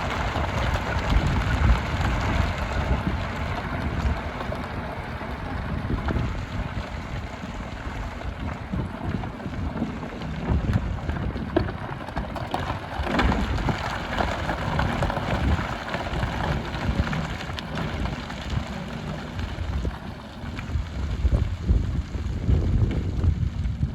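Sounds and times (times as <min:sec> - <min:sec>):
excavator diesel engine under load: 0:00.0 - 0:23.9
gravel rattling against bucket: 0:00.0 - 0:23.9.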